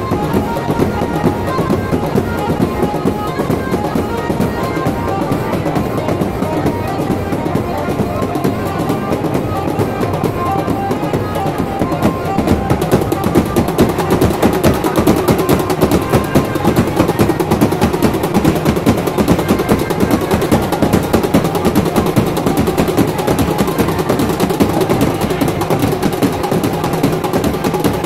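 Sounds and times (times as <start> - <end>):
devotional music in a crowd: 0.0 - 28.0
fast sharp percussive beats: 0.0 - 28.0.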